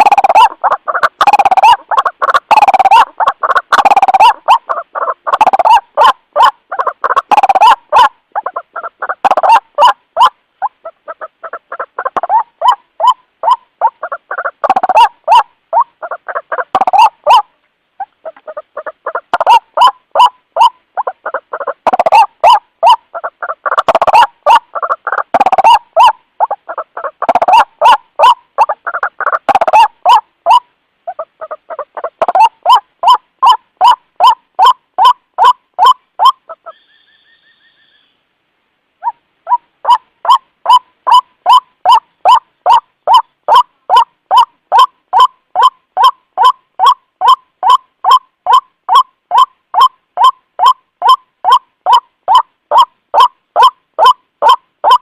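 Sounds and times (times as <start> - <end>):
waterhen calling harsh notes: 0.0 - 38.3, 39.0 - 55.0
faint steady tone: 0.0 - 55.0.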